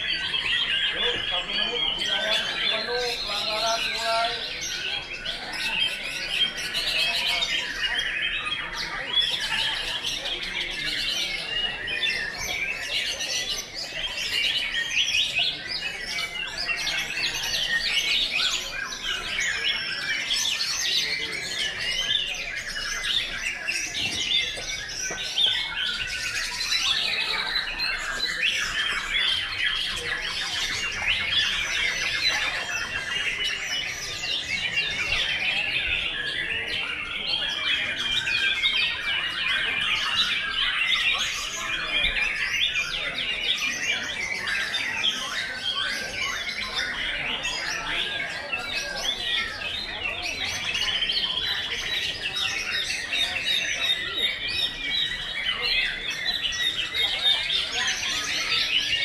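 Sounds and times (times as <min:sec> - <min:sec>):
songbirds singing in chorus: 0:00.0 - 0:59.0.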